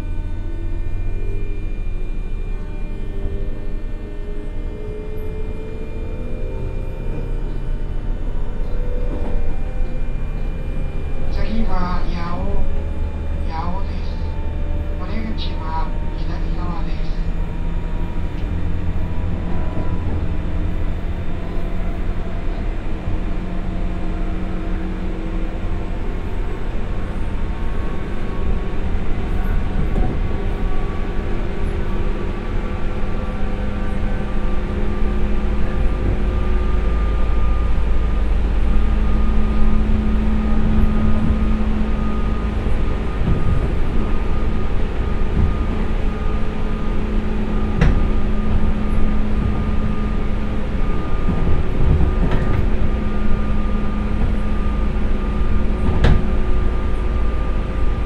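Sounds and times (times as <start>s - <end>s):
electric train motors whining: 0.0s - 58.0s
low train rumble: 0.0s - 58.0s.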